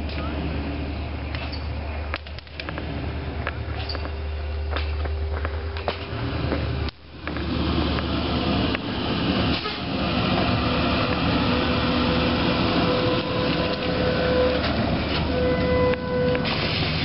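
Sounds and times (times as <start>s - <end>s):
trolleybus running gear hum: 0.0s - 17.0s.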